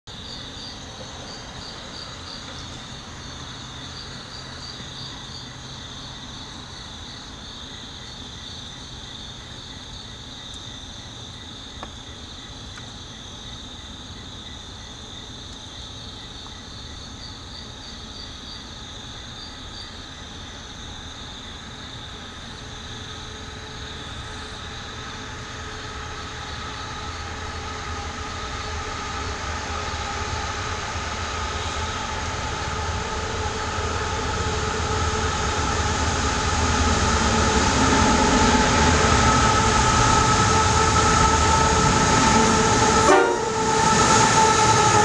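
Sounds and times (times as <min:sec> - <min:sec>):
night insects chirping: 0:00.1 - 0:45.0.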